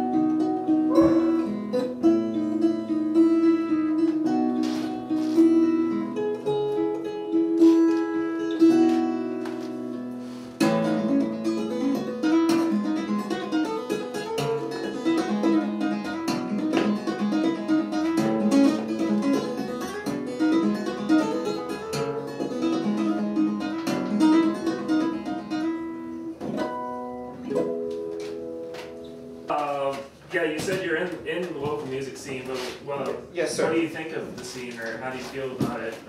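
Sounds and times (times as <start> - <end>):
fingerstyle acoustic guitar: 0.0 - 31.8.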